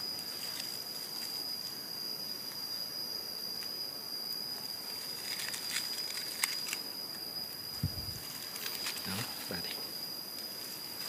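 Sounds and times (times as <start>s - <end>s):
leaf litter and twigs crackling: 0.0s - 2.6s, 4.5s - 11.0s
high-pitched insect drone: 0.0s - 11.0s.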